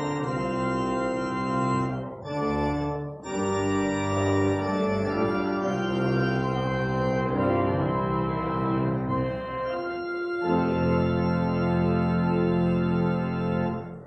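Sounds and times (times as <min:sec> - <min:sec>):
organ playing held chords: 0:00.0 - 0:14.0.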